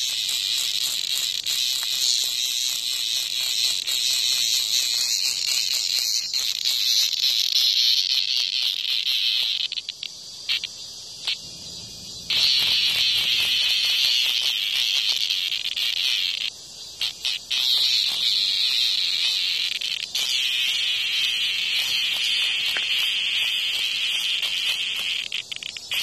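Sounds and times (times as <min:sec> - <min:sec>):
cicada distress buzz: 0:00.0 - 0:26.0
cicada sputtering bursts: 0:00.0 - 0:26.0.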